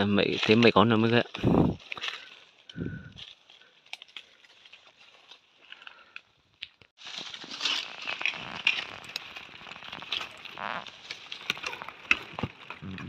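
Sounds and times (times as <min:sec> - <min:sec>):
leaves and twigs crackling underfoot: 0:00.0 - 0:13.0.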